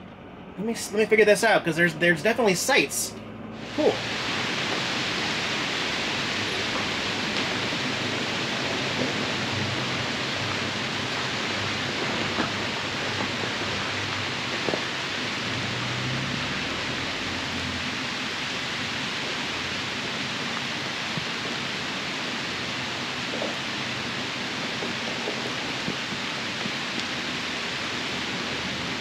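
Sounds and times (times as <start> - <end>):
faint motorhome engine hum: 0.0 - 29.0
steady rain hiss: 0.6 - 29.0.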